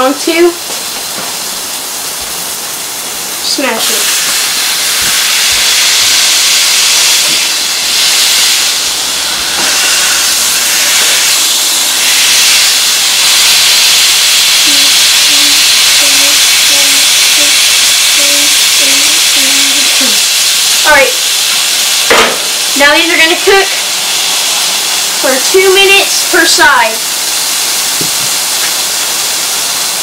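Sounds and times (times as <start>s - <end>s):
burger patty sizzling on griddle: 0.0s - 30.0s.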